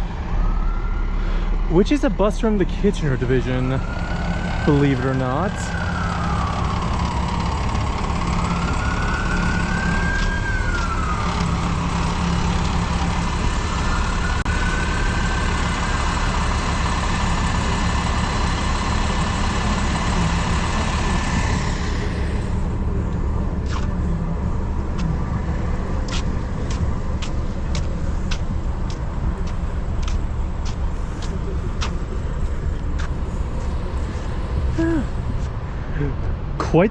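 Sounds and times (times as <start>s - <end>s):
rising and falling whine: 0.0s - 35.1s
vehicle engine and road rumble: 0.0s - 36.9s.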